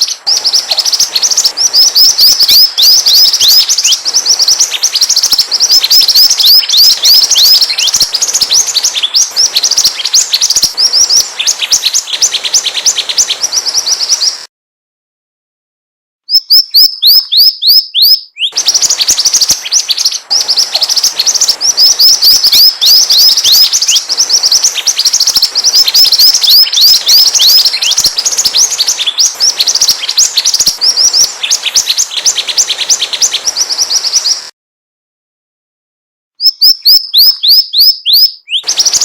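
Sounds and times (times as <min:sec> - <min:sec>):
bird high falling chirps: 0:00.0 - 0:14.5, 0:16.3 - 0:34.5, 0:36.4 - 0:39.0.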